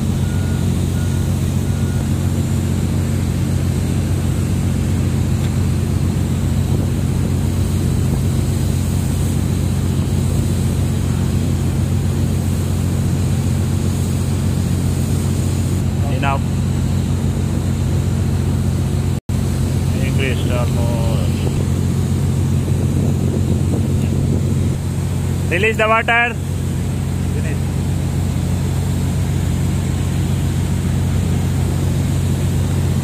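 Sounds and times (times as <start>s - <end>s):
heavy machinery drone: 0.0s - 33.0s.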